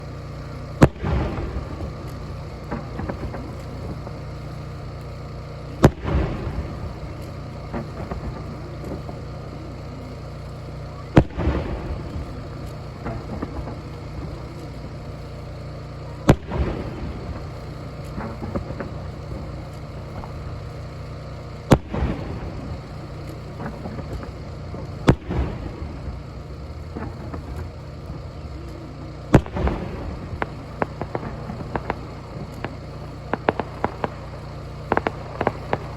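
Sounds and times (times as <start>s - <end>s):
firework shells bursting: 0.0s - 35.9s
small pops and crackles: 0.0s - 35.9s
steady low rumble: 0.0s - 35.9s.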